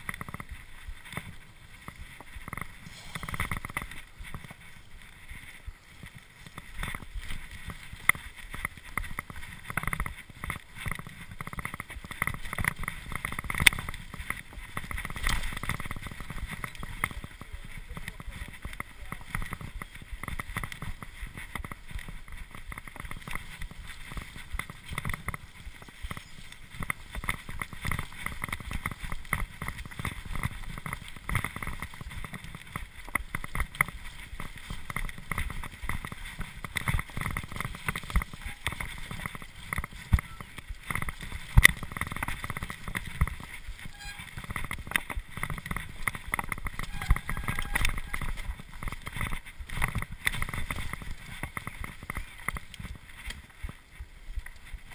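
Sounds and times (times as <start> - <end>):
bike frame and chain rattling: 0.0 - 53.8
bike tyres rumbling over dirt: 0.0 - 54.9.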